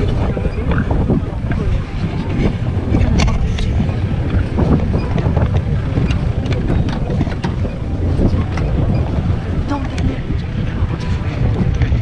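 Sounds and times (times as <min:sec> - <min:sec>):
jeep engine rumble: 0:00.0 - 0:12.0
knocks and rattles: 0:00.0 - 0:12.0
wind buffeting microphone: 0:00.0 - 0:12.0.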